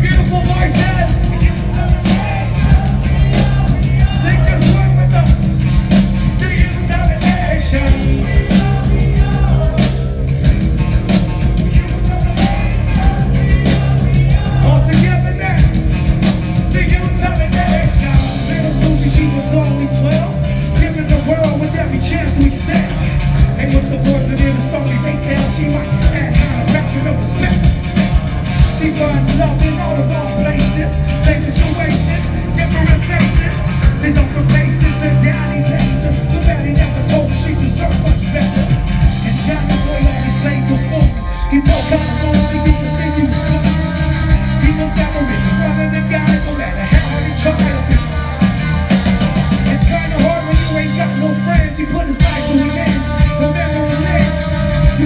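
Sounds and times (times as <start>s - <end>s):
lead singer vocals: 0.0s - 10.6s, 11.3s - 15.8s, 16.6s - 48.6s, 49.5s - 55.0s
live rock band playing: 0.0s - 55.0s.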